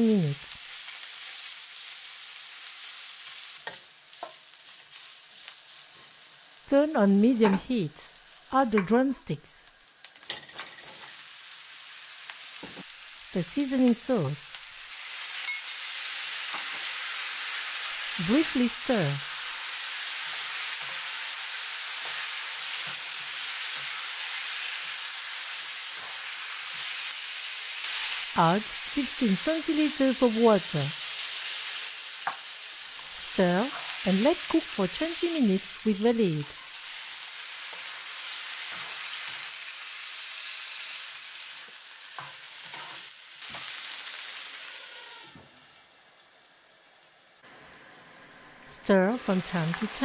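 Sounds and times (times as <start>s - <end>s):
chicken sizzling in a frying pan: 0.0s - 6.7s, 9.7s - 50.0s.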